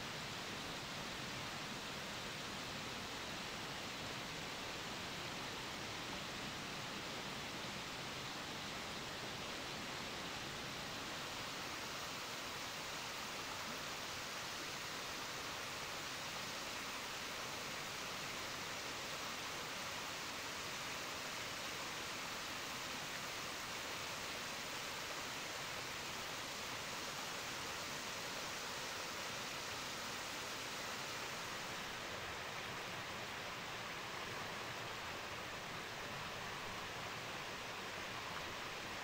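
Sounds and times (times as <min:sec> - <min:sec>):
small waterfall rushing: 0:00.0 - 0:39.0.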